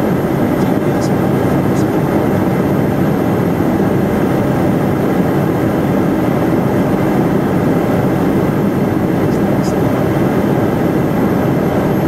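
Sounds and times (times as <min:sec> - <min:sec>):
jet cockpit engine drone: 0:00.0 - 0:12.0.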